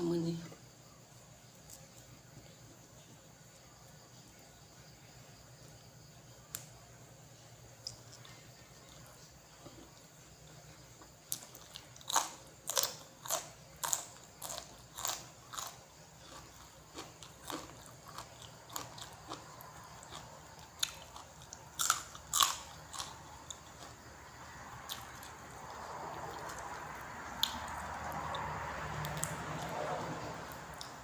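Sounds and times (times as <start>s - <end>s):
crunchy chewing of food: 1.2s - 4.6s, 7.4s - 31.0s.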